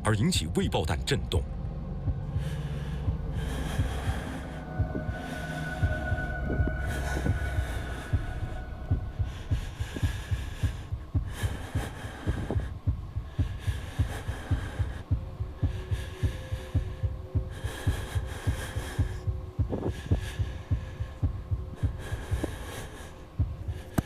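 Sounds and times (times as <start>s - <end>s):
heartbeat thumps: 0.0s - 24.0s
faint sustained drone: 0.6s - 24.0s.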